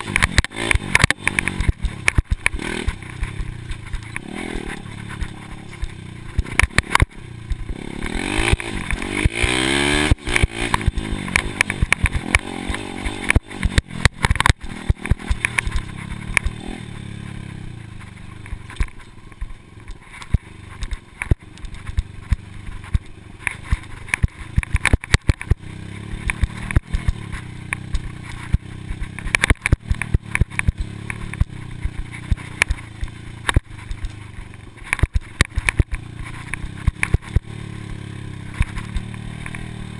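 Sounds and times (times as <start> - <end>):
dirt bike engine revving: 0.0 - 18.8, 20.0 - 39.9
sharp knocks and clatter: 0.0 - 39.9.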